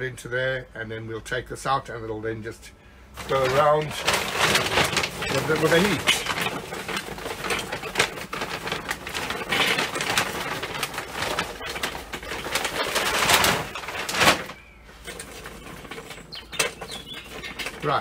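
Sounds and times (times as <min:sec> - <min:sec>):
charcoal briquettes clattering: 0:03.1 - 0:18.0.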